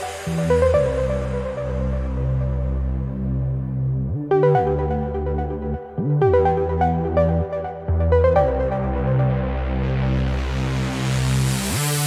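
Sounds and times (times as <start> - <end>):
deep synth bass: 0.0 - 12.0
synthesizer notes: 0.0 - 12.0.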